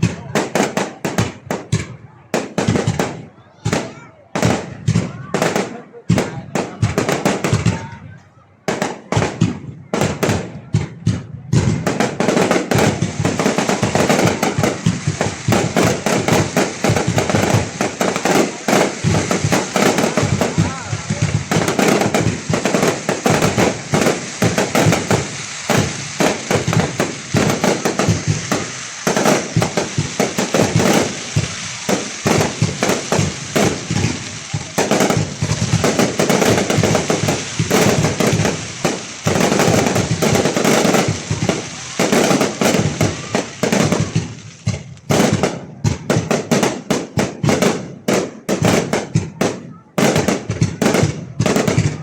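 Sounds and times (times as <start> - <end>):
fireworks cracking and banging: 0.0 - 52.0.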